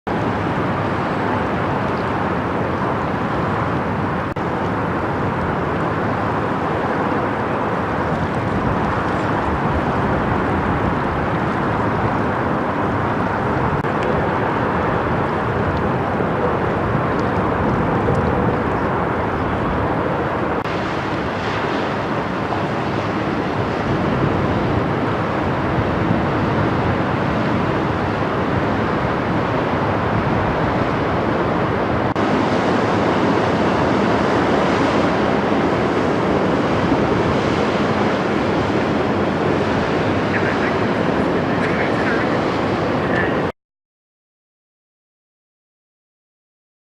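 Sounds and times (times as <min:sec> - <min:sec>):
ship diesel engine drone: 0:00.1 - 0:43.5
water rushing: 0:00.1 - 0:43.5.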